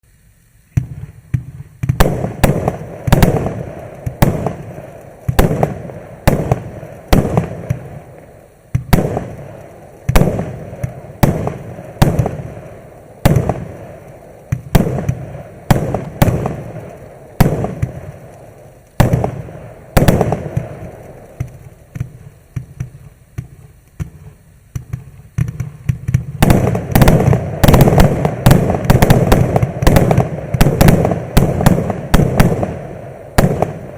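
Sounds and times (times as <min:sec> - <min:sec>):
fireworks shots and bursts: 0:00.1 - 0:33.9.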